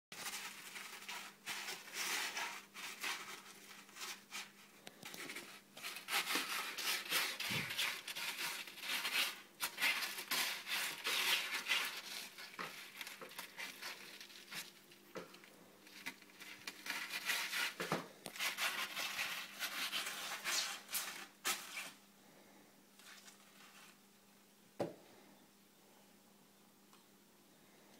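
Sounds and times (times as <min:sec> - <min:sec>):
kittens rustling and scratching: 0:00.1 - 0:24.1.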